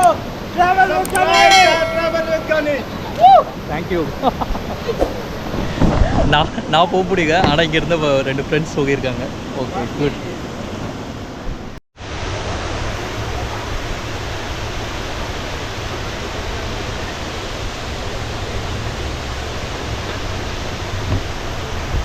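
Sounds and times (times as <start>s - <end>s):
waterfall rushing: 0.0s - 11.3s, 12.0s - 22.0s.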